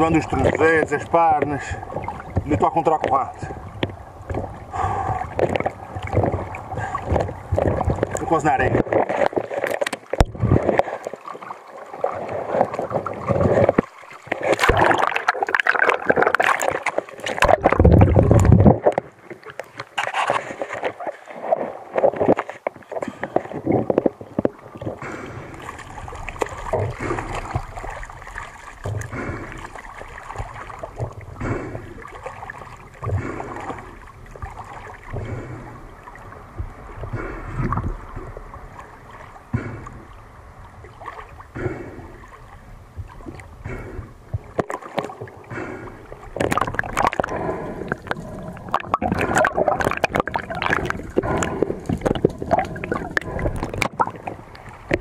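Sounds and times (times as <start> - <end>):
water gurgling and splashing: 0.0 - 55.0.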